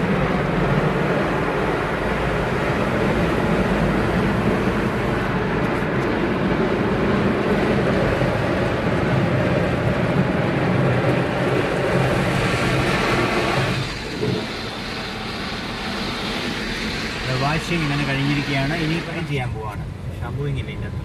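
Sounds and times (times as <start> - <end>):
car wash machinery rushing: 0.0 - 20.1.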